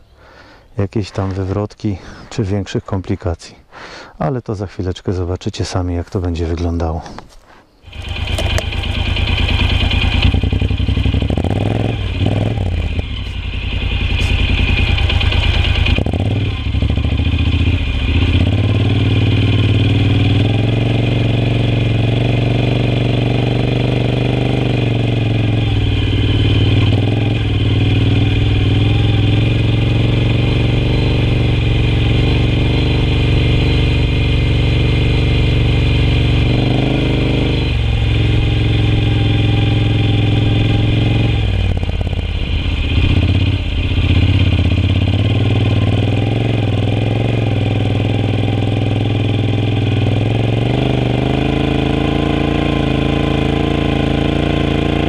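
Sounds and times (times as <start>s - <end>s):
motorcycle engine running: 7.9s - 55.0s.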